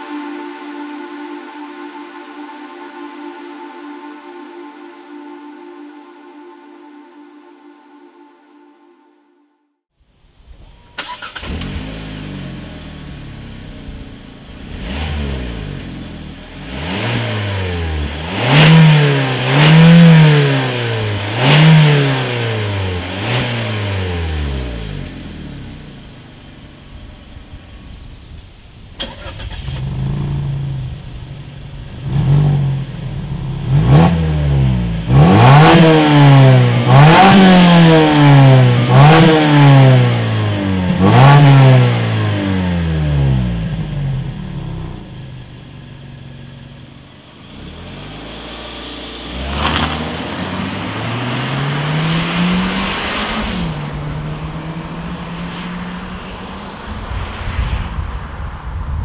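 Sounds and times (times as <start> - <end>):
car engine idling and revving: 10.9 - 59.0.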